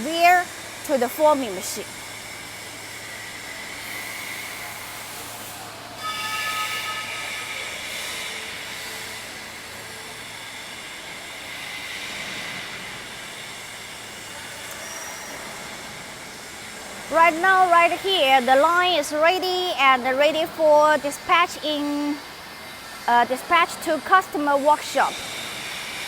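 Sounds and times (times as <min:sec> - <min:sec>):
machinery hiss and hum: 0:00.0 - 0:26.0.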